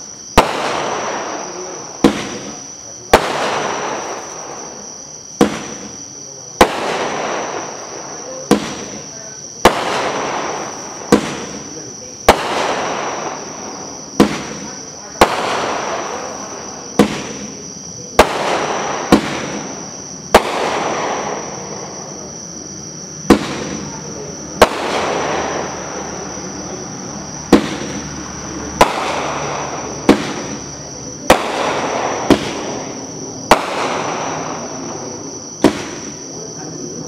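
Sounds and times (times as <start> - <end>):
crackling hiss of firework burst: 0.0 - 37.0
firework bangs: 0.0 - 37.0.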